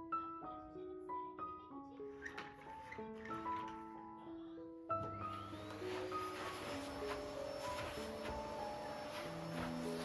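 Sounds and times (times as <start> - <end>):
soft slow instrumental melody: 0.0 - 10.0.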